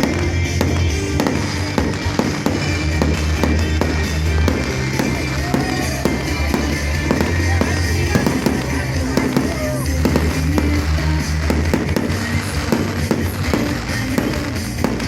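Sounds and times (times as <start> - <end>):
fireworks bursting and crackling: 0.0 - 15.0
music playing: 0.0 - 15.0.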